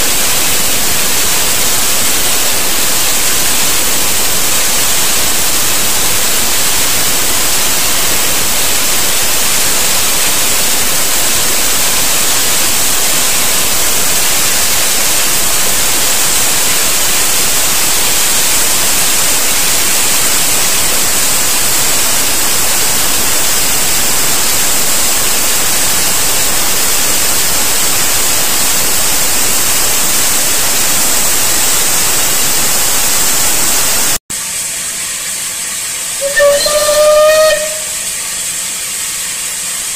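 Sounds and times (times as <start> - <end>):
steam hissing from safety valves: 0.0 - 39.9.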